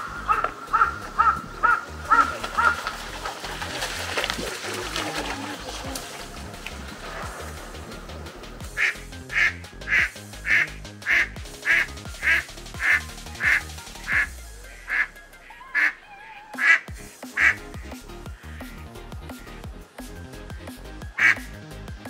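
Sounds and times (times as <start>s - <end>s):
duck quacking: 0.0s - 6.2s, 8.6s - 19.6s, 20.7s - 21.6s
background music: 0.0s - 22.0s.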